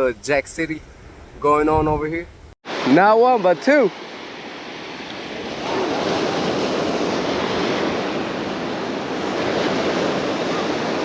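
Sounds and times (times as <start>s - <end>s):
wind on microphone: 0.0s - 2.6s, 4.2s - 11.0s
ocean surf washing ashore: 0.6s - 11.0s.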